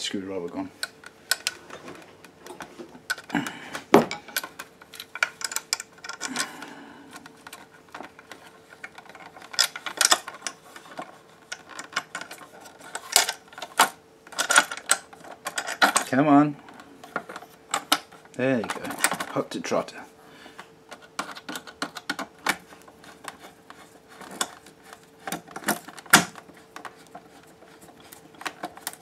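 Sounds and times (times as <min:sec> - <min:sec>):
faint steady hum: 0:00.0 - 0:29.0
clicks and rattles of plastic housing: 0:04.0 - 0:19.5, 0:20.8 - 0:29.0.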